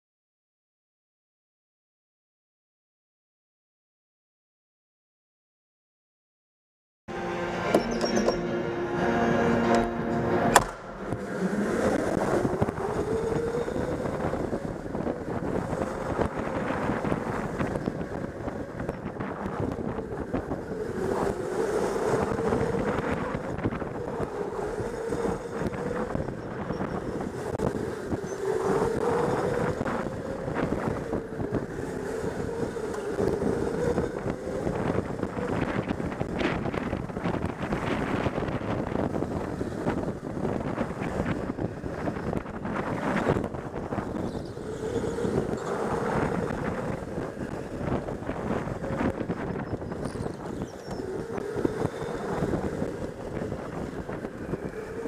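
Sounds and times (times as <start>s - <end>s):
electric go-kart motor whining: 7.5s - 55.0s
wind noise on microphone: 9.2s - 55.0s.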